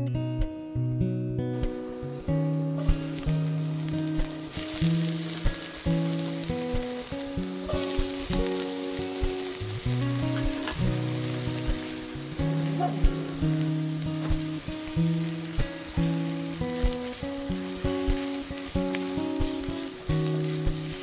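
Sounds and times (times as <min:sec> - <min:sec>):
acoustic guitar music: 0:00.0 - 0:21.0
food sizzling in oil: 0:02.7 - 0:21.0.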